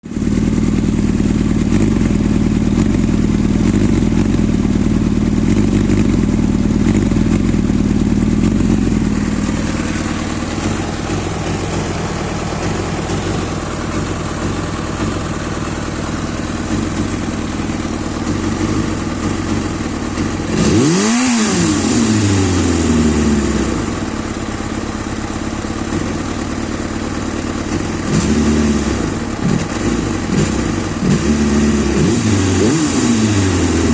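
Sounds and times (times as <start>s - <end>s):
motorcycle engine idling roughly: 0.0s - 33.9s
motorcycle engine revving: 0.0s - 33.9s.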